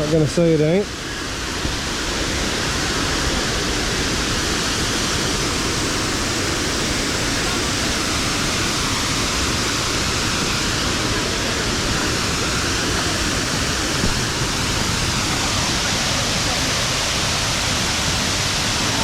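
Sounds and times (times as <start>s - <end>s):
waterfall pouring over rocks: 0.0s - 19.0s.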